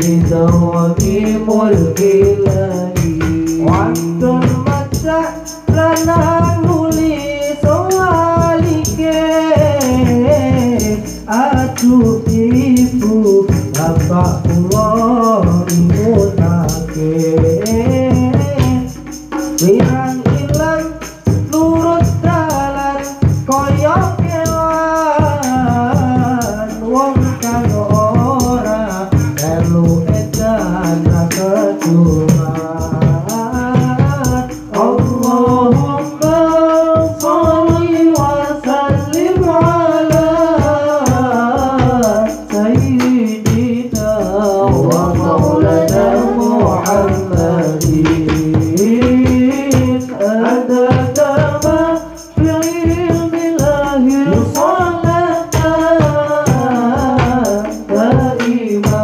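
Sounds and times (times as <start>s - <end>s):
frame drums: 0.0s - 59.0s
hand drum: 0.0s - 59.0s
jingling percussion: 0.0s - 59.0s
person singing into microphone: 0.0s - 59.0s.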